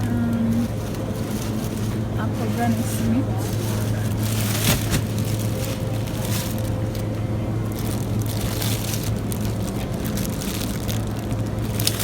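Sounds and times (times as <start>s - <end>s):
low machinery hum: 0.0s - 12.0s
faint rustles and clicks: 0.3s - 12.0s.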